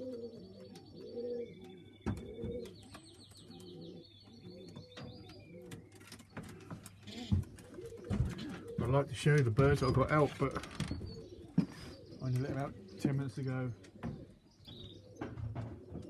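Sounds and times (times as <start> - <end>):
pigeons cooing: 0.0 - 16.0
small birds twittering: 0.0 - 16.0.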